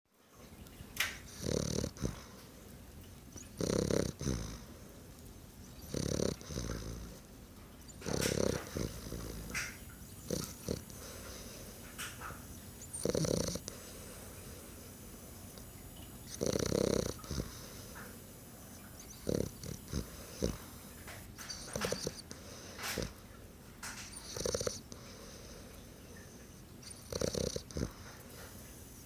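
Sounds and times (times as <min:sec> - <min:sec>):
dog snoring: 0:01.0 - 0:02.5, 0:03.4 - 0:04.9, 0:05.8 - 0:07.3, 0:08.0 - 0:23.2, 0:23.9 - 0:25.6, 0:26.8 - 0:29.0.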